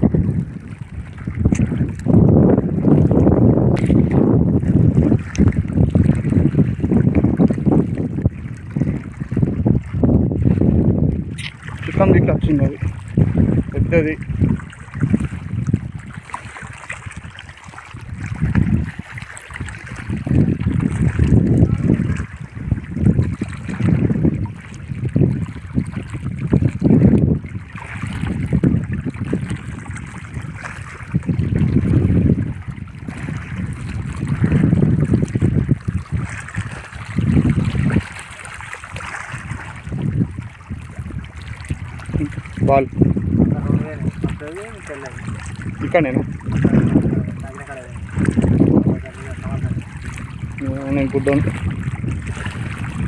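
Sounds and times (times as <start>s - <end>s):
running river water: 0.0s - 53.0s
wind buffeting microphone: 0.0s - 53.0s.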